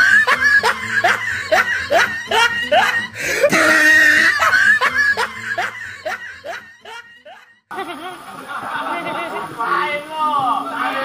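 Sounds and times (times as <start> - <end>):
bursts of laughter: 0.0 - 9.6.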